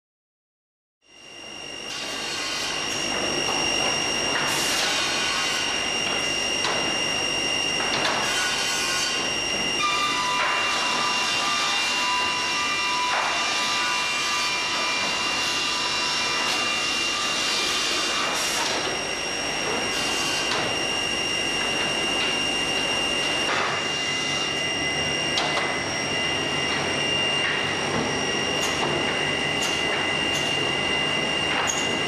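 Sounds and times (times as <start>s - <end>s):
woodworking machine whining: 1.4s - 32.0s.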